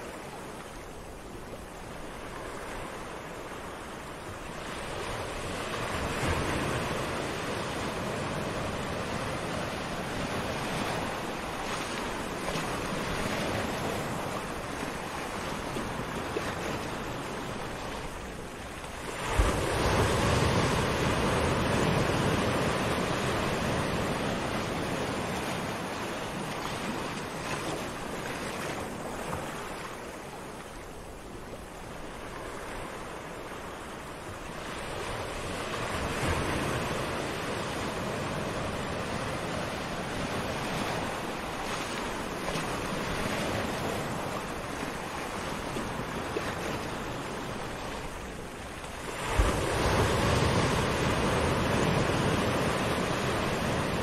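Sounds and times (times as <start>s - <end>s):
waves washing onto beach: 0.0s - 54.0s.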